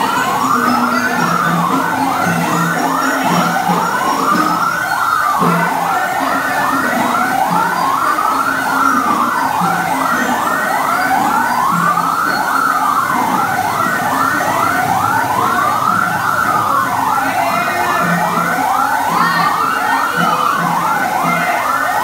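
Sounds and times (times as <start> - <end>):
fire siren wailing and yelping: 0.0 - 22.0.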